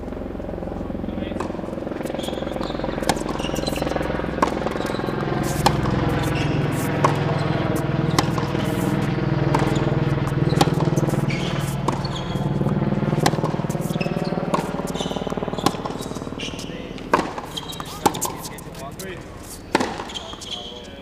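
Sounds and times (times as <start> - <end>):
low mechanical hum: 0.0 - 21.0
tennis racket hitting ball: 1.3 - 20.8.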